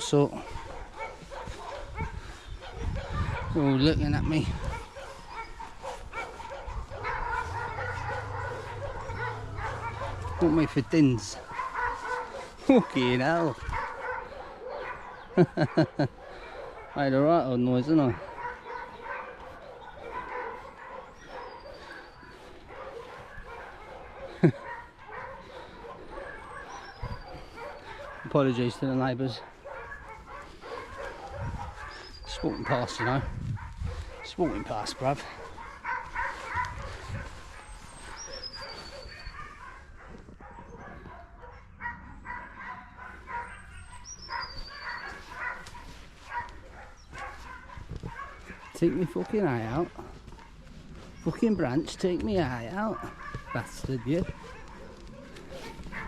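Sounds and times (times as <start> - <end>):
dogs barking and yipping: 0.0 - 56.0.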